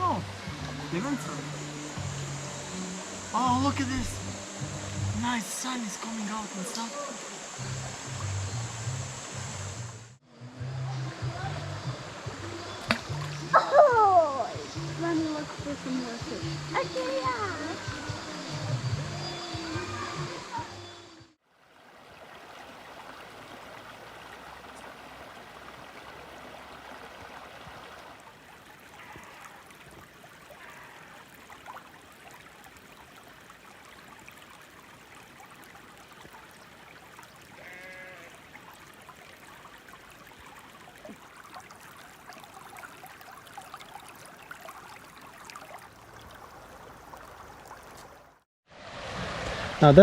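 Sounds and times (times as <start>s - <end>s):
creek running over rocks: 0.0s - 50.0s.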